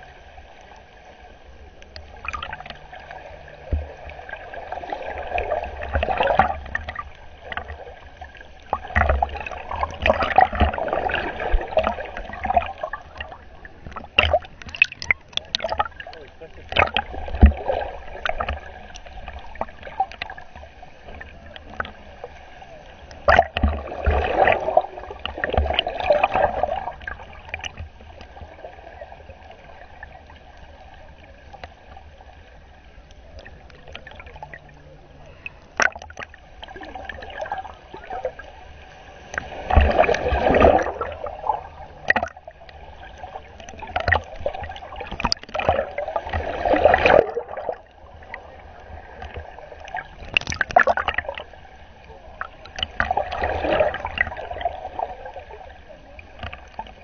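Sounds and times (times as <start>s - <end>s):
water gurgling underwater: 0.0s - 57.0s.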